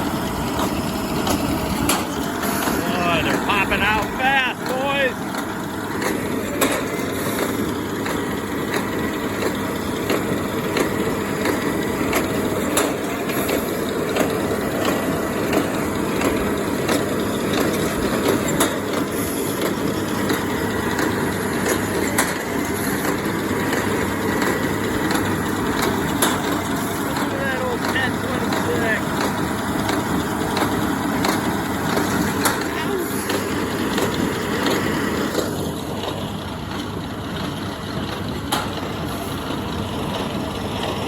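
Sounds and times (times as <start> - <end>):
tractor running: 0.0 - 41.0.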